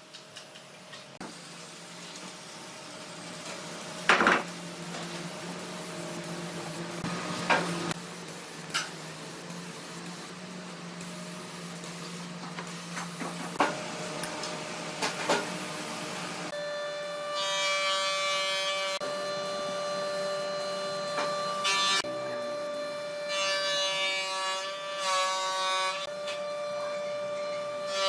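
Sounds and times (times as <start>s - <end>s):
low workshop hum: 0.0s - 28.0s.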